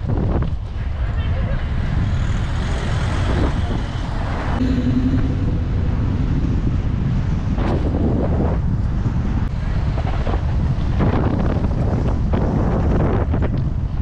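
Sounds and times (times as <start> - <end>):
road noise from cars: 0.0 - 5.0, 7.1 - 14.0
wind buffeting microphone: 1.4 - 14.0.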